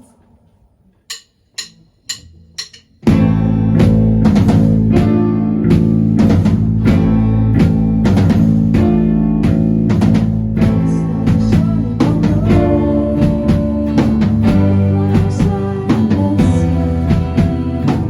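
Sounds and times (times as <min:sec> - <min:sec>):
band playing guitar and drums: 0:01.6 - 0:18.0.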